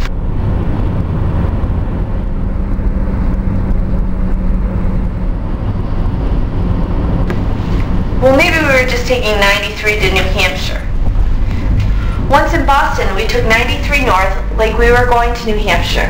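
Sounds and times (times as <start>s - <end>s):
car road and engine noise: 0.0s - 16.0s
low hum: 0.0s - 16.0s.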